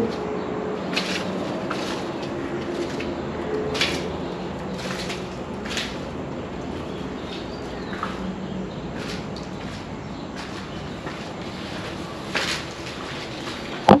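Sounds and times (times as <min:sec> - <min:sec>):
footsteps crunching through leaves: 0:00.9 - 0:13.8.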